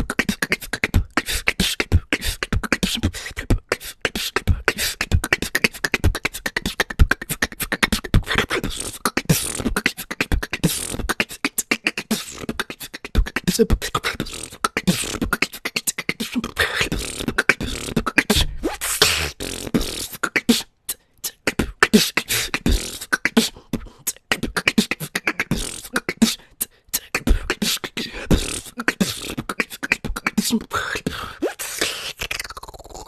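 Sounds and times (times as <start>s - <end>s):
woman beatboxing: 0.0s - 33.0s.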